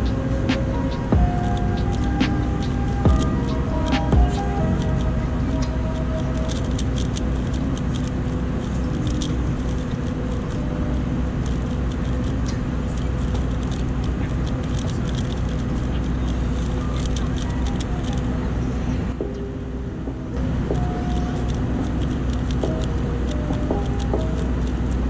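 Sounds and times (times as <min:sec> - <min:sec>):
speed cube clicking: 0:00.0 - 0:10.8, 0:11.4 - 0:18.4, 0:20.7 - 0:25.0
airliner cabin drone: 0:00.0 - 0:25.0.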